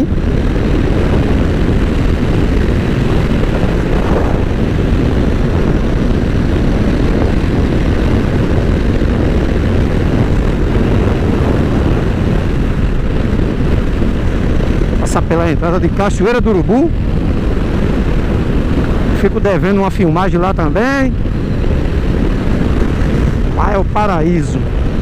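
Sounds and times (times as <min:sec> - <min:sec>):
motorcycle engine cruising: 0:00.0 - 0:25.0
wind buffeting microphone: 0:00.0 - 0:25.0.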